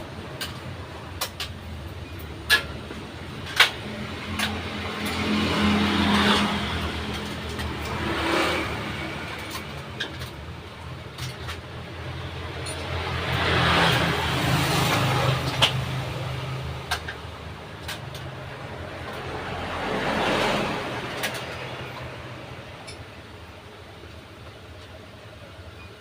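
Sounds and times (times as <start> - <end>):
vehicles passing: 0.0 - 25.6.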